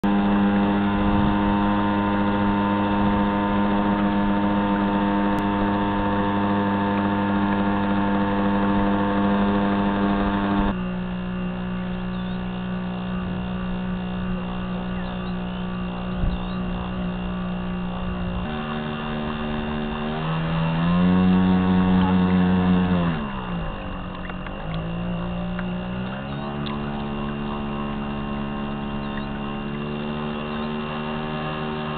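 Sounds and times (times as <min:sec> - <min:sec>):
model ship motor humming and whining: 0:00.0 - 0:31.9.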